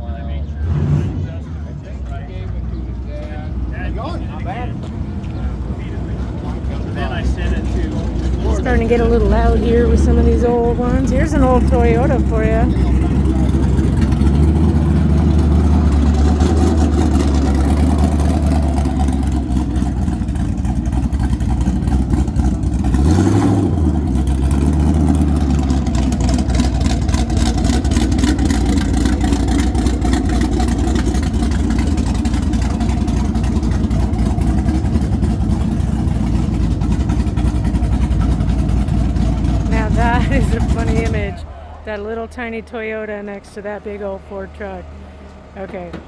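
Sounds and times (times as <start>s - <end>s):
engine revving: 0.0s - 2.7s, 3.8s - 41.6s
old car engines running: 0.0s - 46.0s.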